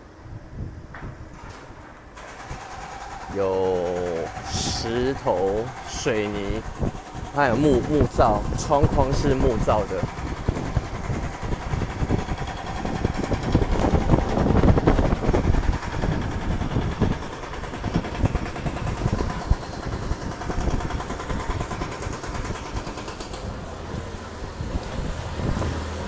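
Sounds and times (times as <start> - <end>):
motor engine rumbling: 0.0 - 26.0
street traffic noise: 0.0 - 26.0.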